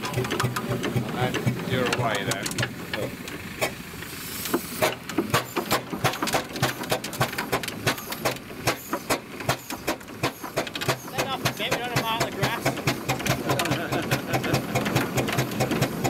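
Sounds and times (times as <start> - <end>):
steam engine chuffing: 0.0 - 16.0.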